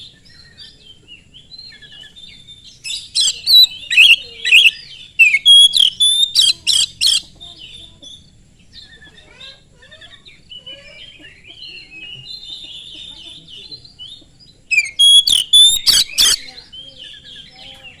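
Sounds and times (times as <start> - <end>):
bird singing: 0.0 - 18.0
bird twittering: 0.0 - 18.0.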